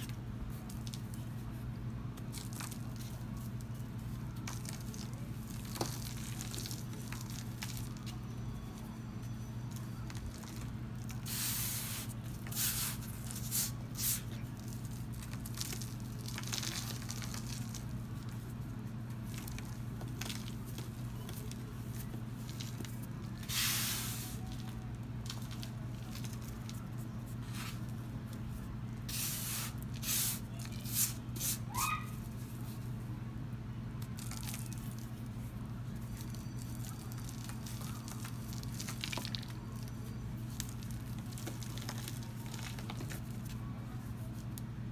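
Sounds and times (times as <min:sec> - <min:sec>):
hands crushing powdery balls: 0:00.0 - 0:33.0, 0:33.9 - 0:44.9
low steady hum: 0:00.0 - 0:44.9.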